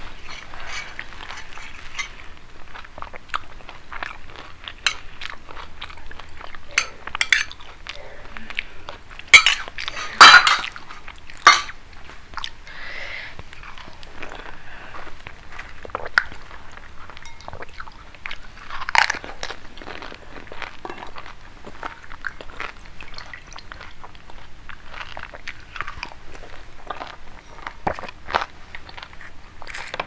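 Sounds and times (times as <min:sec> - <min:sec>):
crunching of crisp fried shells: 0:00.0 - 0:12.6, 0:13.5 - 0:30.0.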